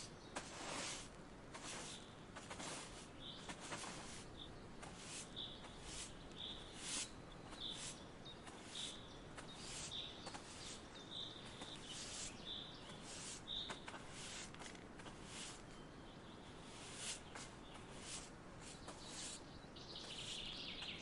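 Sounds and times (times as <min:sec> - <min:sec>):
faint outdoor hiss: 0:00.0 - 0:21.0
bird chirping: 0:03.2 - 0:14.4, 0:15.3 - 0:21.0.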